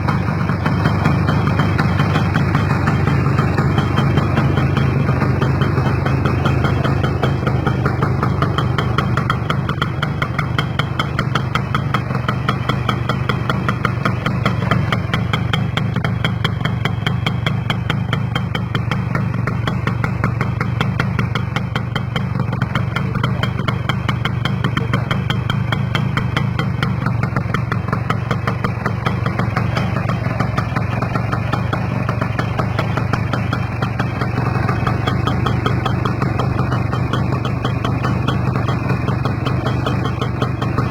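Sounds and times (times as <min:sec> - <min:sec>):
two-stroke motorcycle engine idling: 0:00.0 - 0:40.9.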